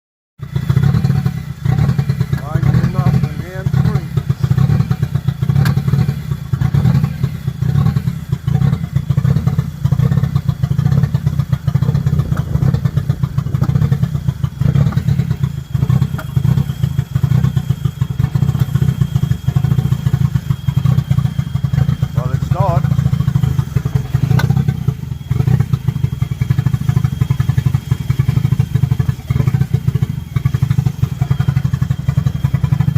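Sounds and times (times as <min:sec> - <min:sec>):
engine running with pulsing exhaust: 0:00.4 - 0:32.9.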